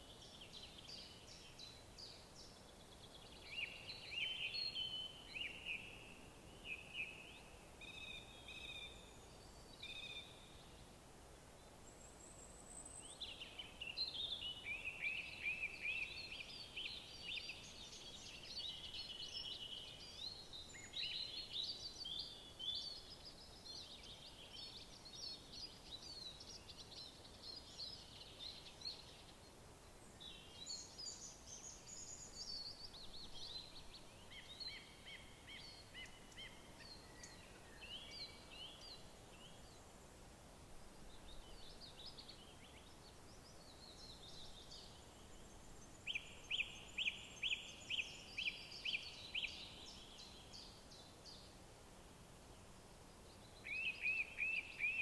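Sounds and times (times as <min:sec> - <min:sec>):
songbirds singing: 0:00.0 - 0:11.0, 0:11.6 - 0:40.2, 0:41.0 - 0:51.6, 0:52.4 - 0:55.0
faint background hiss: 0:00.0 - 0:55.0.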